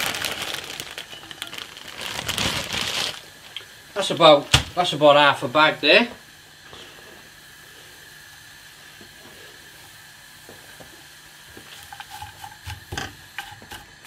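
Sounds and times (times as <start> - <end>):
noodles sizzling in a frying pan: 0.0 - 14.0.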